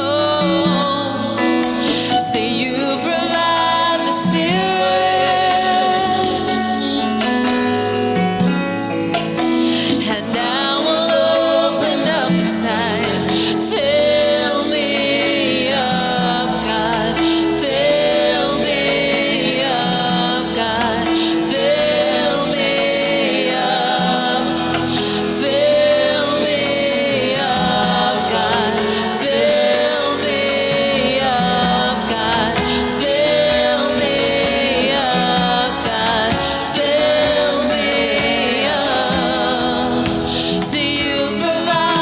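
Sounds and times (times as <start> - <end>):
gospel worship music: 0.0 - 42.0.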